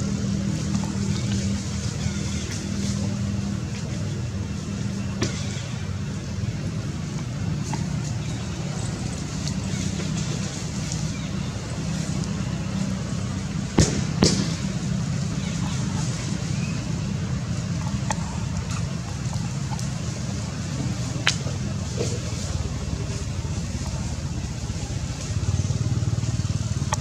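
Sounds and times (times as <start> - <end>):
low motor hum: 0.0 - 27.0.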